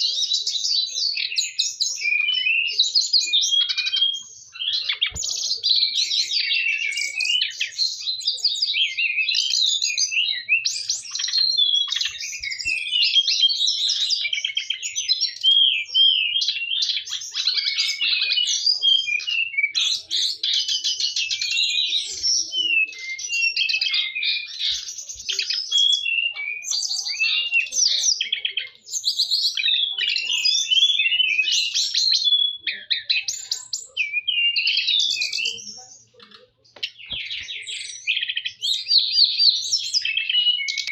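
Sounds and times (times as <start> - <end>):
bird warbling and chirping: 0.0 - 40.9.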